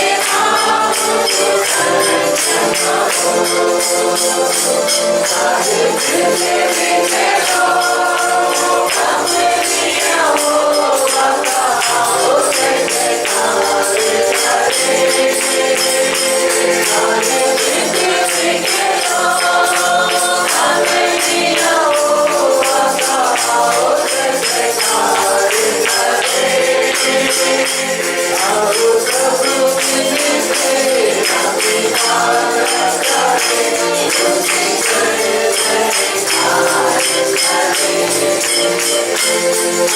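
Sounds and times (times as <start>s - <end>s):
group singing worship song: 0.0s - 39.9s
instrumental backing: 0.0s - 39.9s
tambourine shaking: 0.0s - 39.9s.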